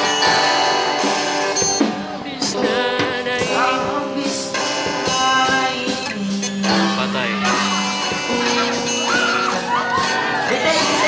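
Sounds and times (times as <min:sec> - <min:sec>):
drums: 0:00.0 - 0:11.0
electric guitar: 0:00.0 - 0:11.0
strummed acoustic guitars: 0:00.0 - 0:11.0
person singing: 0:01.8 - 0:11.0.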